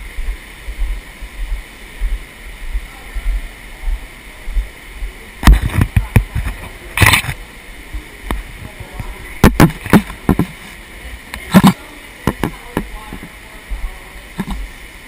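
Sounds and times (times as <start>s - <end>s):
underground stream rushing: 0.0s - 15.0s.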